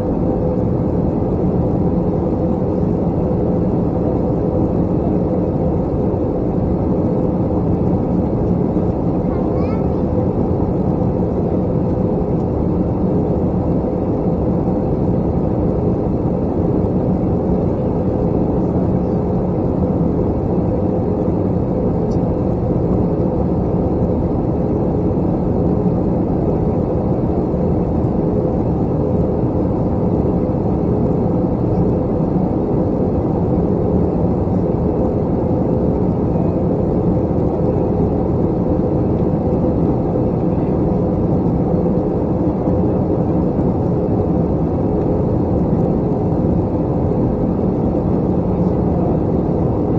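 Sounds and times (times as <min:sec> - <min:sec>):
jet engine cabin roar: 0:00.0 - 0:49.9.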